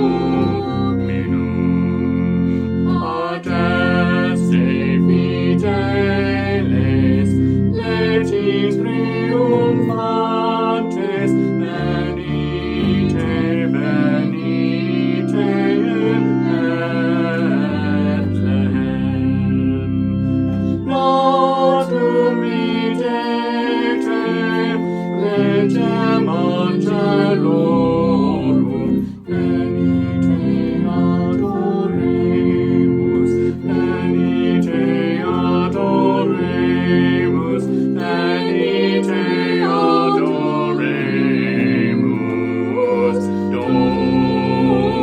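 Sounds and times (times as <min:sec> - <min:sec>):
choir singing: 0:00.0 - 0:45.0
church organ music: 0:00.0 - 0:45.0.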